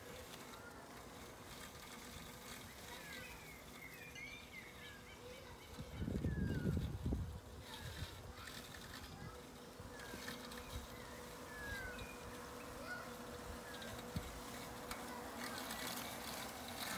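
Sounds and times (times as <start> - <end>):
birds chirping: 0.0 - 16.9
robotic mower motor humming: 0.0 - 16.9.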